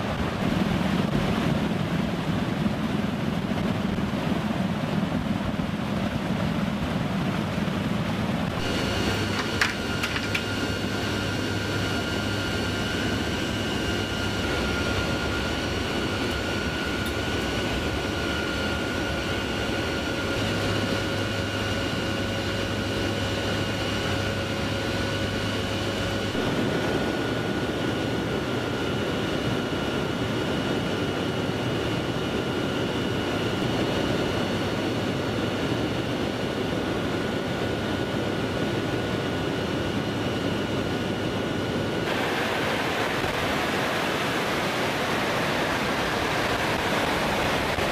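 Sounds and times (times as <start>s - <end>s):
aircraft engine drone: 0.0s - 47.9s
high steady whine: 0.0s - 47.9s.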